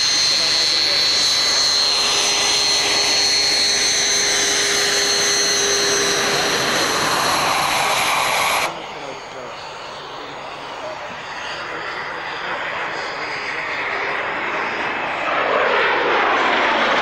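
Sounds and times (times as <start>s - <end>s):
jet engine whine and rush: 0.0s - 17.0s.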